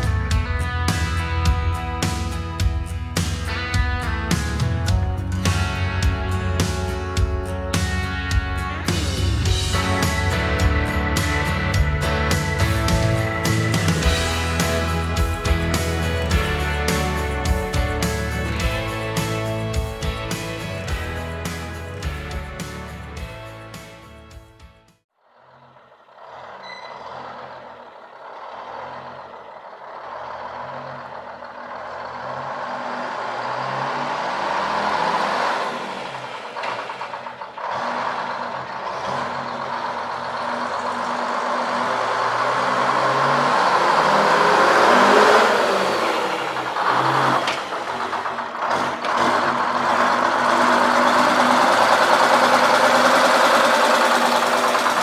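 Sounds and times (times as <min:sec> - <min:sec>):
diesel engine running: 0:00.0 - 0:24.4, 0:25.2 - 0:55.0.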